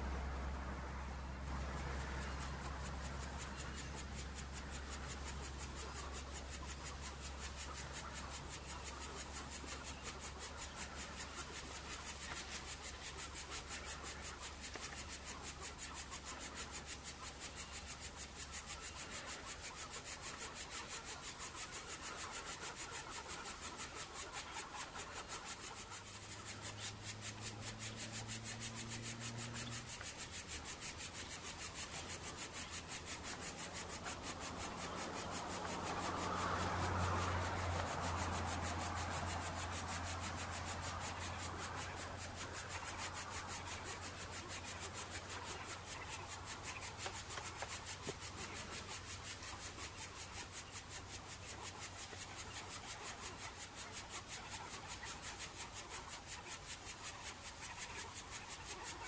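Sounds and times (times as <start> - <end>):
low steady hum: 0.0 - 54.8
cicadas chirring: 0.0 - 59.0.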